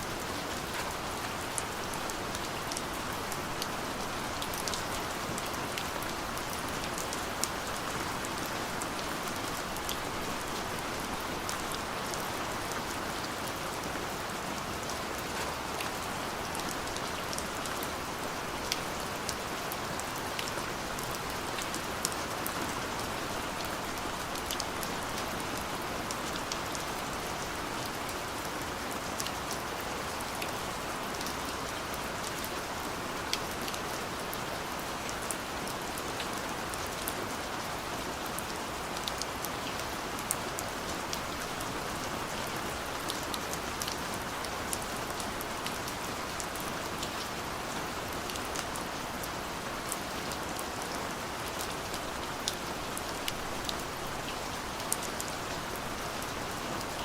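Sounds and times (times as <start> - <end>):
steady light rain: 0.0 - 57.0.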